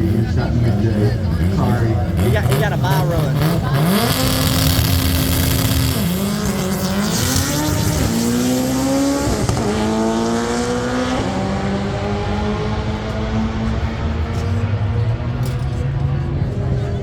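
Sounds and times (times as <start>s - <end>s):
drag car engine accelerating: 0.0s - 17.0s.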